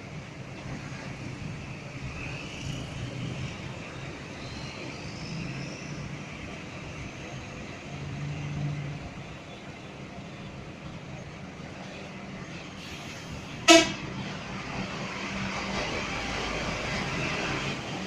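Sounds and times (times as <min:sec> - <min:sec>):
outdoor noise: 0:00.0 - 0:18.0.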